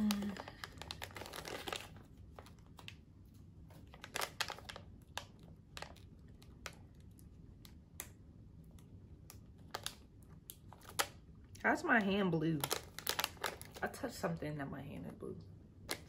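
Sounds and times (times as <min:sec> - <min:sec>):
plastic wrapper crinkling: 0:00.0 - 0:08.1, 0:08.7 - 0:14.1.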